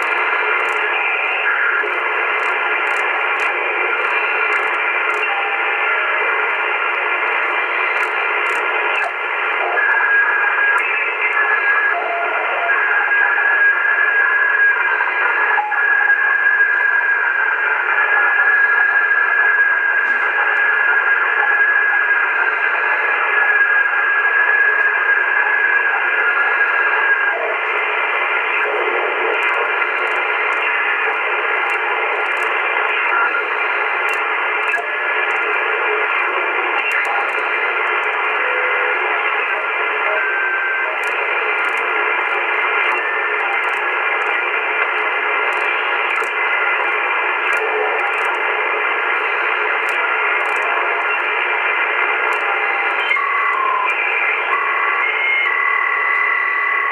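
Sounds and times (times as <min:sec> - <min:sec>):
radio static: 0:00.0 - 0:56.9.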